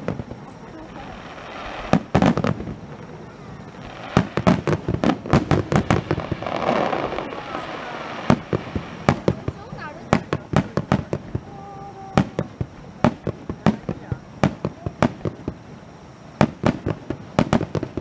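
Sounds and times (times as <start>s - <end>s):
fireworks bursting with sharp bangs: 0.0s - 18.0s.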